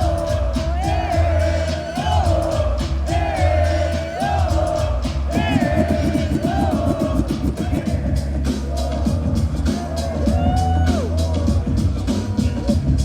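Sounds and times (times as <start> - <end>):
crowd noise: 0.0 - 13.0
live concert music: 0.0 - 13.0.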